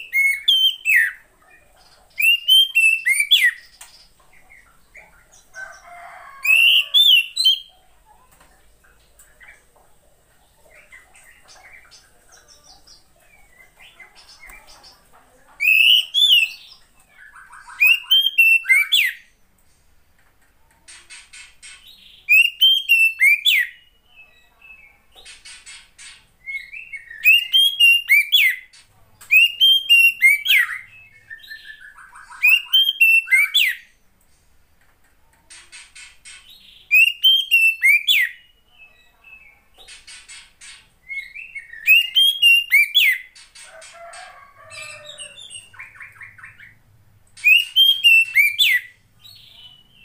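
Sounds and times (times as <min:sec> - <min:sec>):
magpie-robin song: 0:00.0 - 0:08.0, 0:10.5 - 0:19.4, 0:21.0 - 0:34.0, 0:35.7 - 0:50.0.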